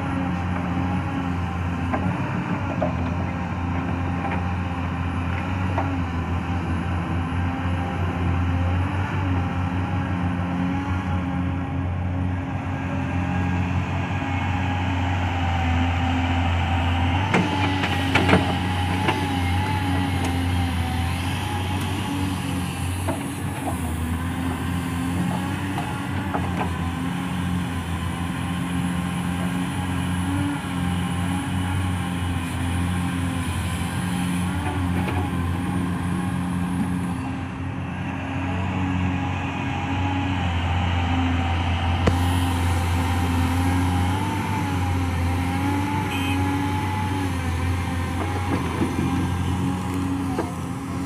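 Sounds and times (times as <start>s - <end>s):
excavator digging sand: 0.0s - 51.0s
heavy diesel engines running: 0.0s - 51.0s.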